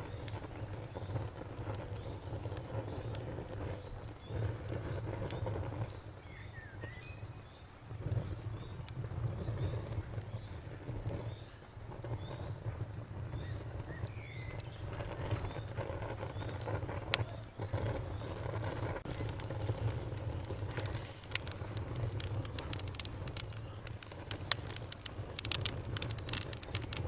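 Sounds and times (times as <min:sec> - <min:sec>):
campfire crackling and popping: 0:00.0 - 0:27.0
cricket chirping: 0:00.0 - 0:27.0.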